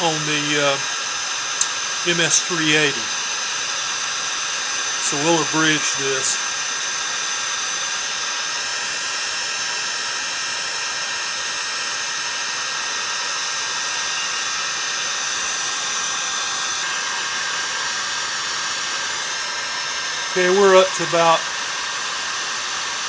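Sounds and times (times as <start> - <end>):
heat gun blowing with whine: 0.0 - 23.0.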